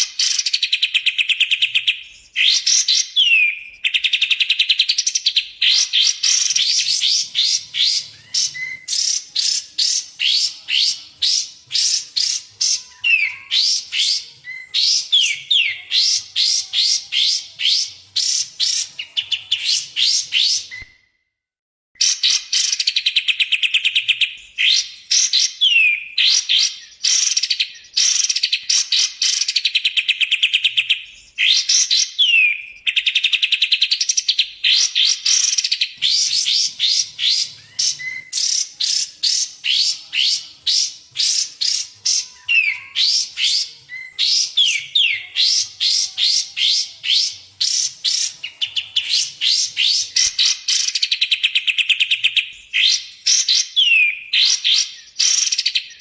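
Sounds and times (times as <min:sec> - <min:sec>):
songbird whistled chirps and trills: 0:00.0 - 0:21.3, 0:22.0 - 0:56.0.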